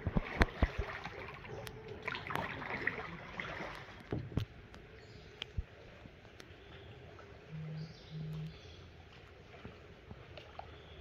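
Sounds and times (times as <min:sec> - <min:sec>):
paddle water splashing: 0:00.0 - 0:11.0.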